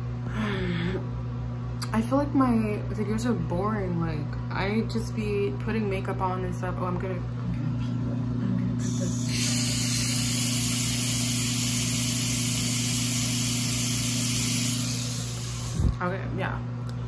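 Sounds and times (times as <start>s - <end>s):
constant low hum: 0.0s - 17.0s.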